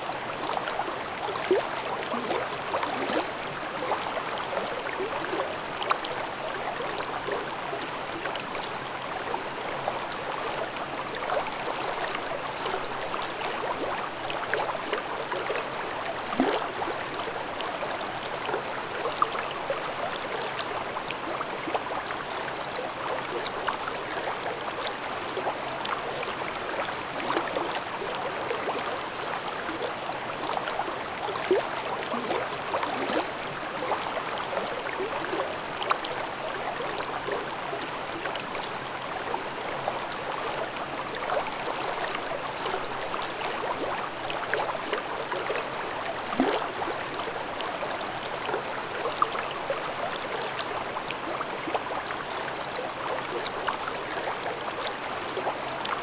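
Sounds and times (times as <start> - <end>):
stream babbling over rocks: 0.1 - 56.0.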